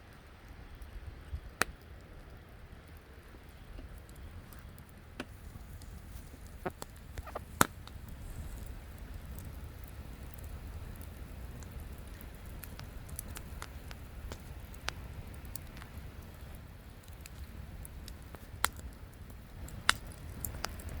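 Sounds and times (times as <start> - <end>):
campfire wood crackling and popping: 0.0 - 21.0.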